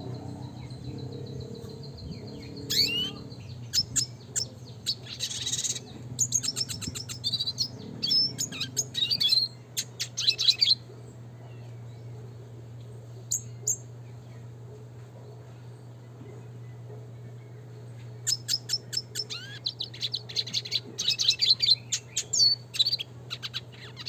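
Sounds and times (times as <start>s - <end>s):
bird singing chirps and trills: 0.0s - 14.6s, 15.2s - 24.0s
steady low hum: 0.0s - 24.0s.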